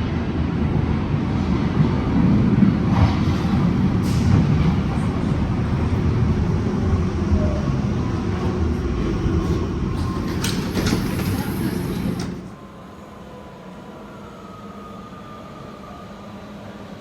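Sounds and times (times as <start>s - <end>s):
train rumbling: 0.0s - 14.6s.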